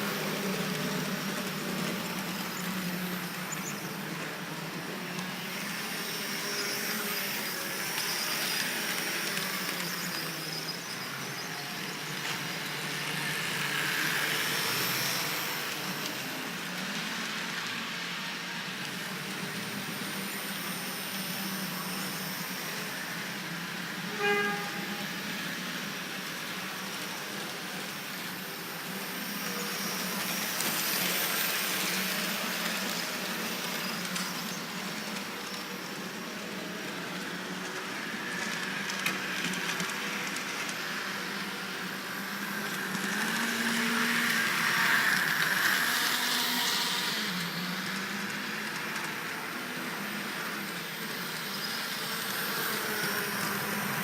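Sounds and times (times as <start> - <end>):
model tram motors whirring: 0.0 - 54.0
wheels clicking on track: 0.0 - 54.0.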